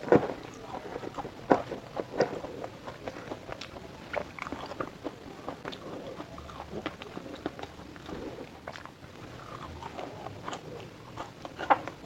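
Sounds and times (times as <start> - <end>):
person chewing fried food: 0.0 - 12.0.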